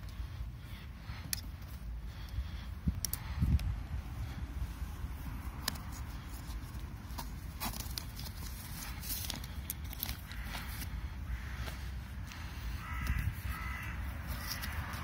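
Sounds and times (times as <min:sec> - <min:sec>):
bungee cord and straps rustling: 0:00.0 - 0:15.0.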